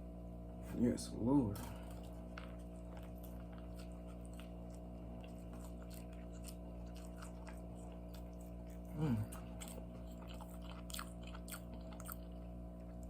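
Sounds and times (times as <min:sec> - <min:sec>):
low hum with fixed tones: 0:00.0 - 0:13.0
person chewing food: 0:01.6 - 0:13.0.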